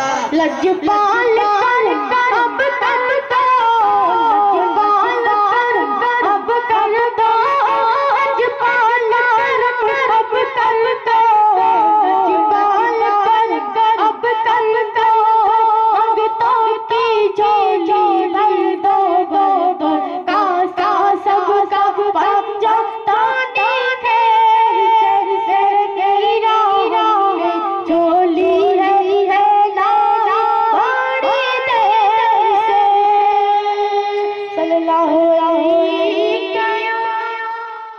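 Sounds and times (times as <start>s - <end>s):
boy singing into microphone: 0.0s - 37.9s.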